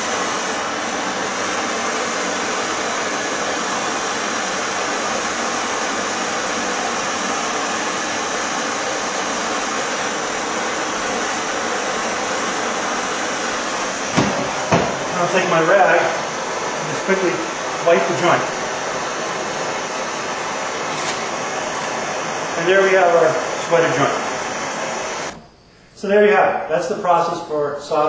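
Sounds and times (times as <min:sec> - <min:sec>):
torch flame hissing: 0:00.0 - 0:25.4.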